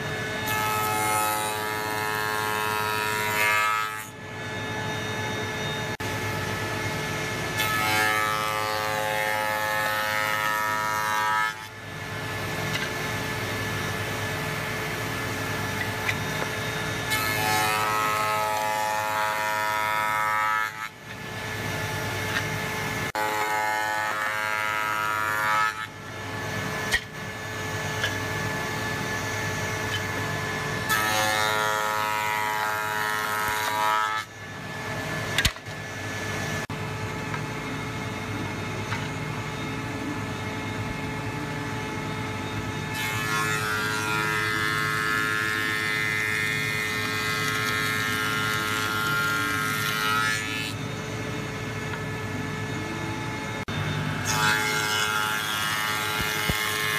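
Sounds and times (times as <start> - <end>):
wood shaper cutter whining: 0.0 - 56.9.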